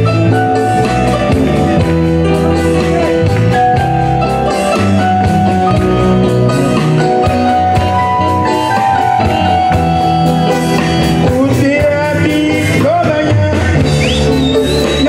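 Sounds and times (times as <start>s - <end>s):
electric guitar: 0.0s - 15.0s
live band playing: 0.0s - 15.0s.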